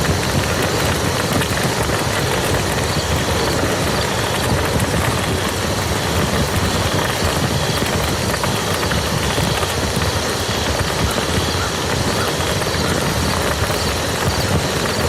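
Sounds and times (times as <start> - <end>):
rain falling on mud: 0.0 - 15.0.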